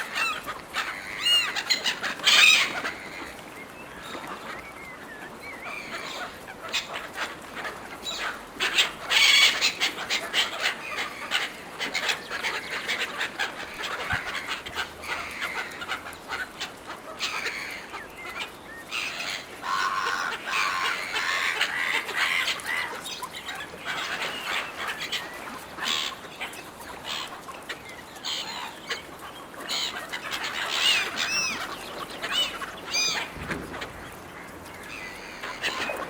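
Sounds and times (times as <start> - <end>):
gulls calling and squabbling: 0.0 - 36.0.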